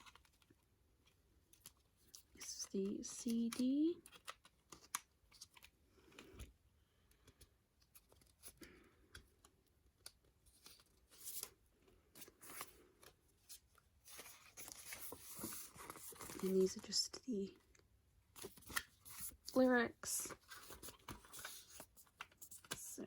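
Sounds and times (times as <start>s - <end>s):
soft rustling of paper insert: 0.0s - 6.6s, 7.2s - 23.0s.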